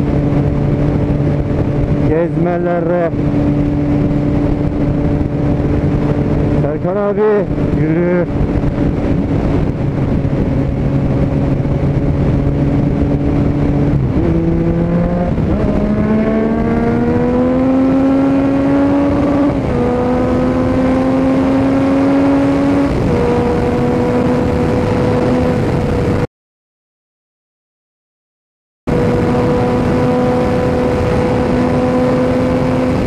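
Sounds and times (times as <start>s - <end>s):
motorcycle engine accelerating: 0.0s - 26.3s, 28.9s - 33.0s
wind noise: 0.0s - 26.3s, 28.9s - 33.0s.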